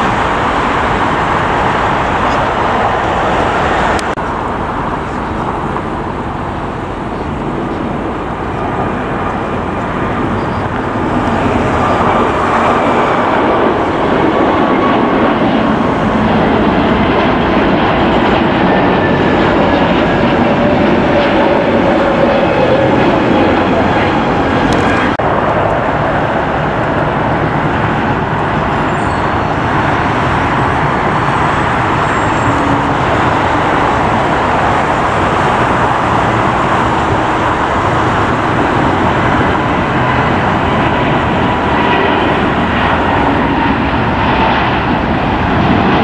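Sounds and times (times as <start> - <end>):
jet engine roar at takeoff: 0.0 - 46.0
jet engine whine: 0.0 - 46.0.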